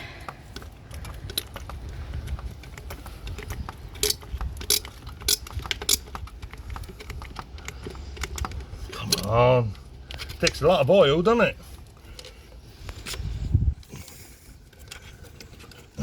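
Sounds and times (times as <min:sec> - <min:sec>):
hand pump plastic clicks: 0:00.0 - 0:16.0.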